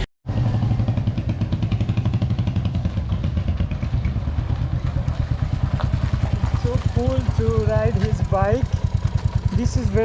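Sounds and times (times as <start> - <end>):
motorcycle engine running: 0.3 - 10.0.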